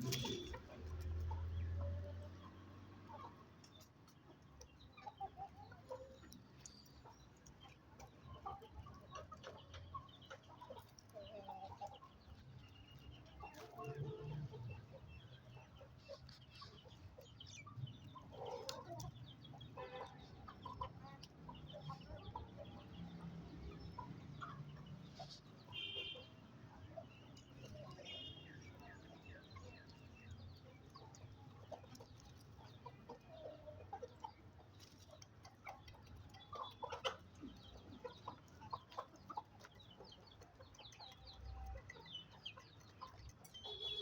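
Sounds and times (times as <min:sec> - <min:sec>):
chickens clucking quietly: 0:00.0 - 0:44.0.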